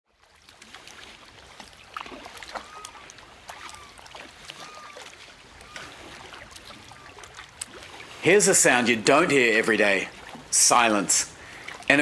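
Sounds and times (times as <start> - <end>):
paddles splashing in water: 0.1 - 12.0.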